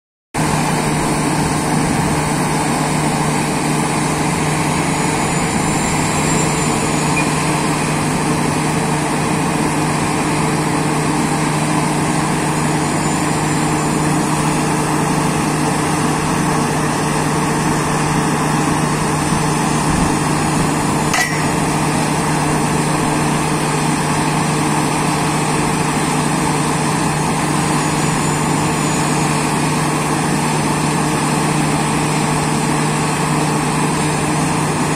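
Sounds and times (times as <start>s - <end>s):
drill rig engine drone: 0.4s - 34.9s.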